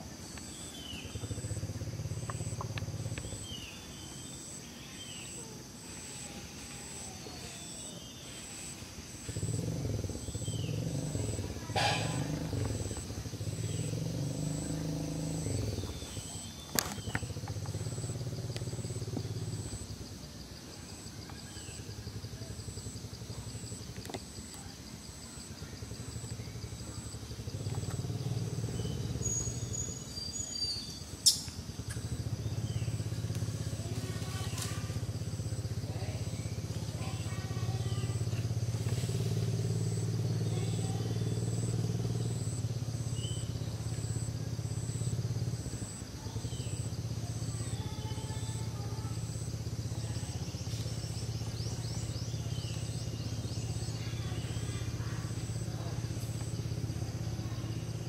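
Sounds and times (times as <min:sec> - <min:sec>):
vehicle engine humming: 0:00.0 - 0:04.9, 0:09.0 - 0:20.4, 0:21.9 - 0:30.2, 0:31.0 - 0:58.0.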